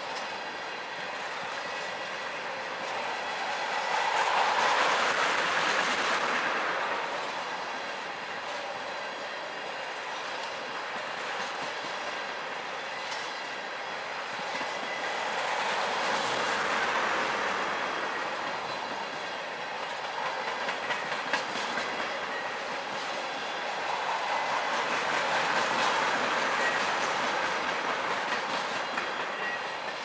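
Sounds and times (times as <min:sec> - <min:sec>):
train wheels rolling on rail: 0:00.0 - 0:30.0.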